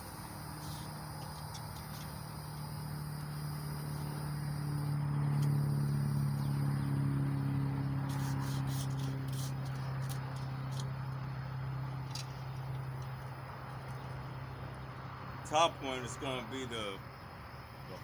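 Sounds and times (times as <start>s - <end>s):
insects chirping: 0.0s - 18.0s
low engine hum: 0.0s - 18.0s.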